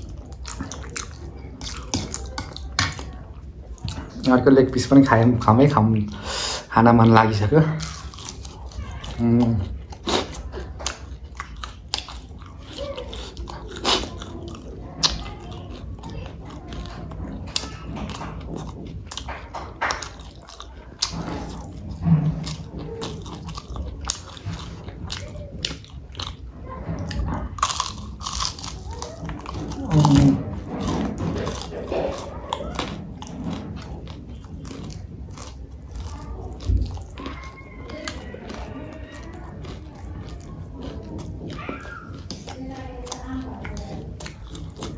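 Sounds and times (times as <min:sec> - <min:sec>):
chewing and biting food: 0:00.0 - 0:06.2, 0:06.8 - 0:44.9.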